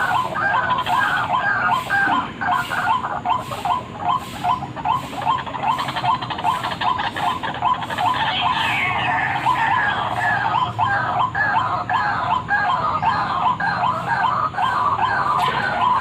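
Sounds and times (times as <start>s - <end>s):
higher warbling bird call: 0.0s - 16.0s.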